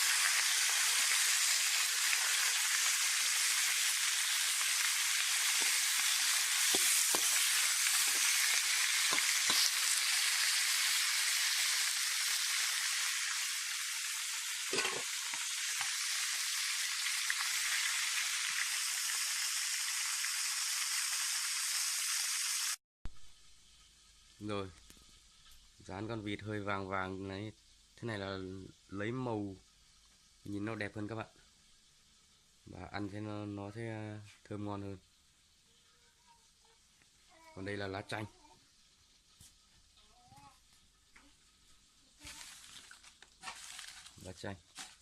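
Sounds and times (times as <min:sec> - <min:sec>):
duck sizzling in hot oil: 0:00.0 - 0:45.0.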